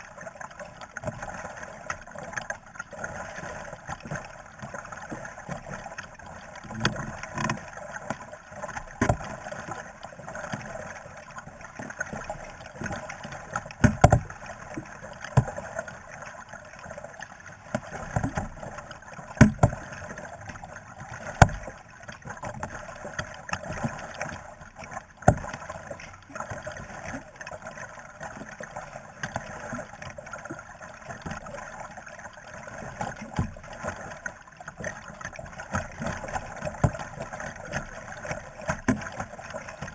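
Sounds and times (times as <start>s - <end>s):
paddle splashing water: 0.0s - 39.9s.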